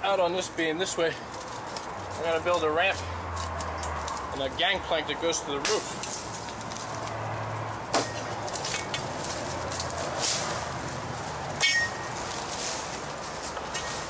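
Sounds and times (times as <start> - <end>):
faint crackling: 0.0 - 14.0
steady hiss: 0.0 - 14.0.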